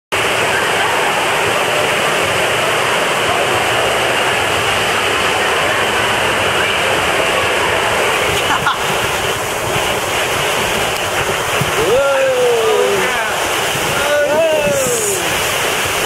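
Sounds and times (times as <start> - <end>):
water rushing and churning: 0.1 - 16.0.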